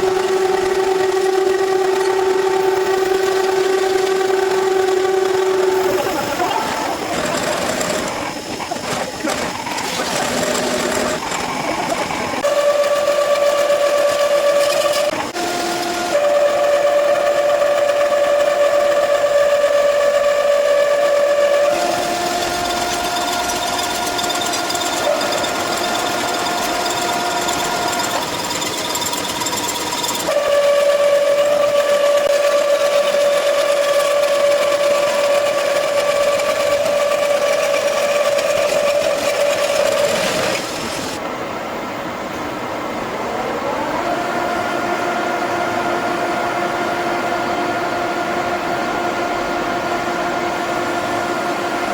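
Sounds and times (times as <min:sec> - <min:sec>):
metal lathe whining: 0:00.0 - 0:51.9.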